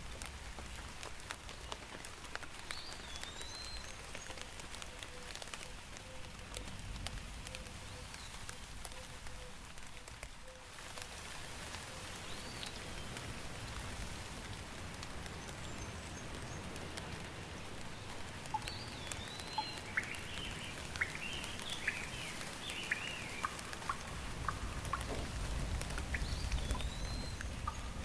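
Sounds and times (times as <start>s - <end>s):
rain pattering: 0.0s - 28.0s.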